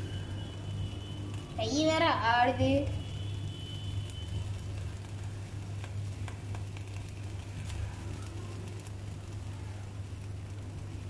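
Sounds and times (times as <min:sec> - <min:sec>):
steady low hum: 0:00.0 - 0:11.0
water sizzling with small ticks: 0:00.0 - 0:11.0.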